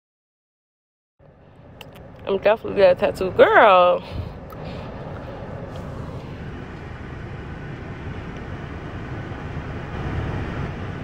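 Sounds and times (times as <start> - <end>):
car interior rumble: 1.2 - 11.0.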